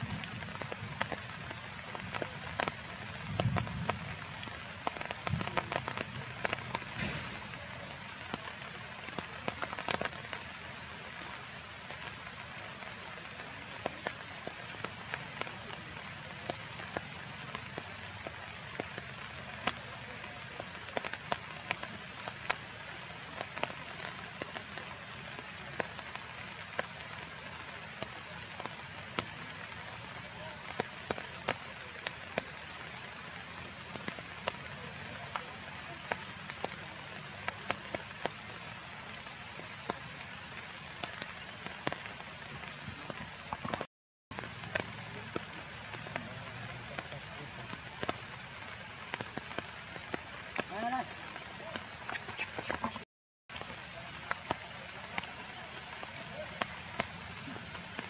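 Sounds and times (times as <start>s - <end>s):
drops ticking on leaves: 0.0s - 58.0s
rain falling on foliage: 0.0s - 58.0s.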